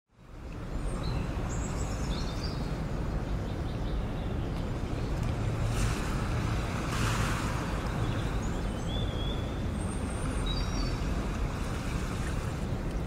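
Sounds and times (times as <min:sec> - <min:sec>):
low rumbling noise: 0:00.2 - 0:13.0.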